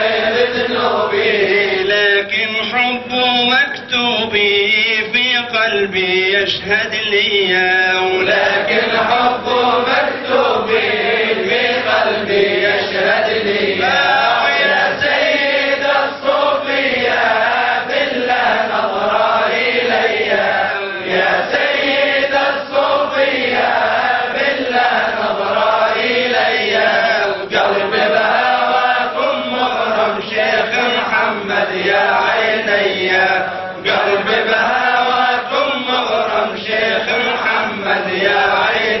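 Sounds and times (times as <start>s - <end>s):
man chanting unaccompanied: 0.0s - 17.2s, 17.8s - 39.0s.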